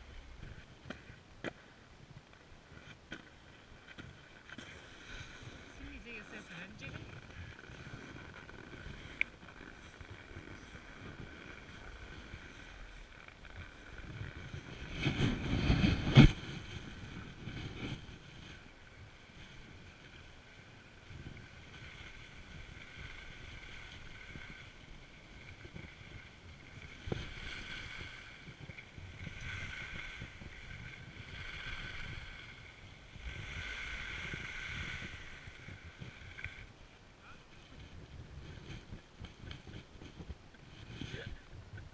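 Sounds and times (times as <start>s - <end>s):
wind rumble on microphone: 0.0s - 41.9s
skis scraping on snow: 2.6s - 36.7s.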